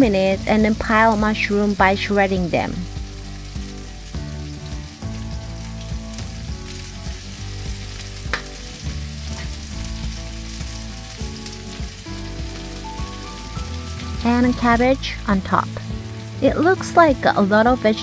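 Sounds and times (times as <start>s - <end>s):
food sizzling in hot oil: 0.0s - 18.0s
soft background music: 0.0s - 18.0s.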